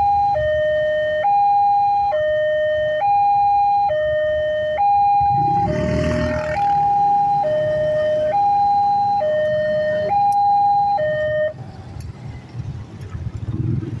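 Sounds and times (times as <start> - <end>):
two-tone crossing alarm: 0.0 - 11.6.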